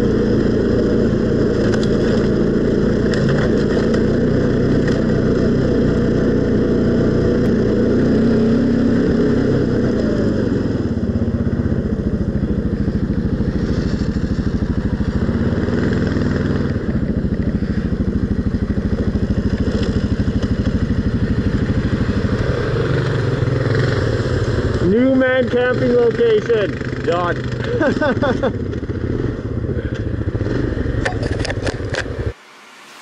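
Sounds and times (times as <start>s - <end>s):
atv engine running: 0.0s - 32.4s.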